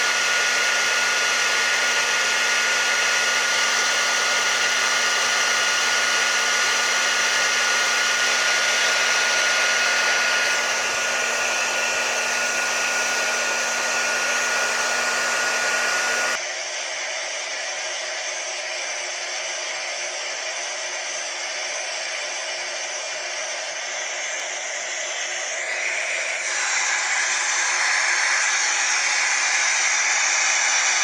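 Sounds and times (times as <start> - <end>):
hair dryer blowing: 0.0 - 31.0
hair dryer high whine: 0.0 - 31.0.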